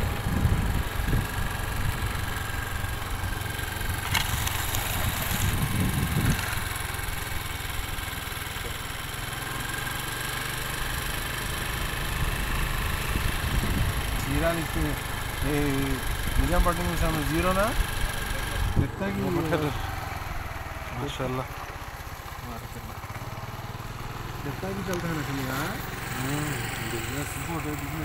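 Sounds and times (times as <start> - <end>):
road and wind noise: 0.0 - 28.0
vehicle engine running: 0.0 - 28.0.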